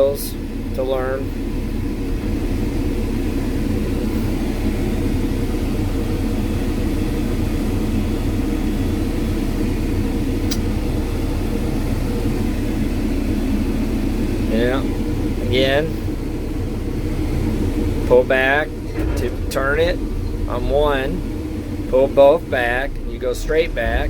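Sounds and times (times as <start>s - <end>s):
excavator diesel engine droning: 0.0s - 24.0s.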